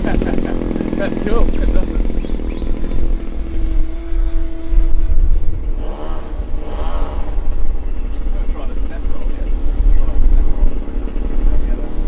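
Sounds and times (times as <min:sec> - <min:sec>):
model plane motor and propeller: 0:00.0 - 0:12.0
wind buffeting microphone: 0:00.0 - 0:12.0.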